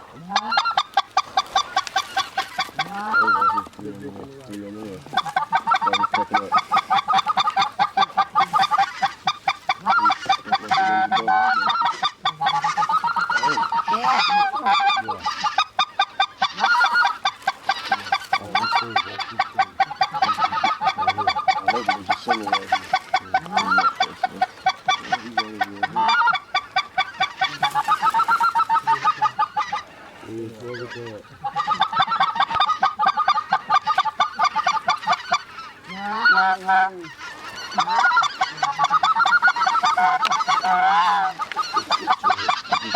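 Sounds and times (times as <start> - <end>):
geese honking and clucking: 0.0 - 42.9.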